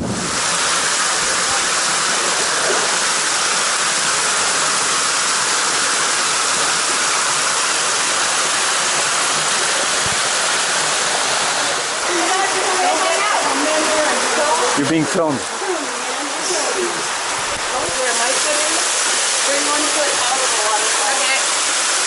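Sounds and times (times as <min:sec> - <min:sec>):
fast-moving water rushing: 0:00.0 - 0:22.0.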